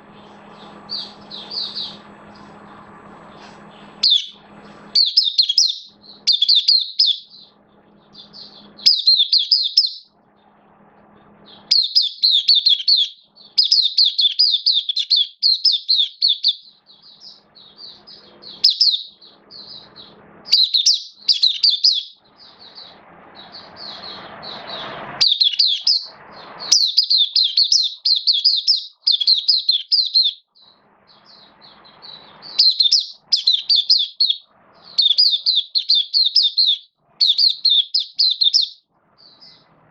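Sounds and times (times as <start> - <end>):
bird twittering: 0.0 - 10.2, 11.4 - 39.8.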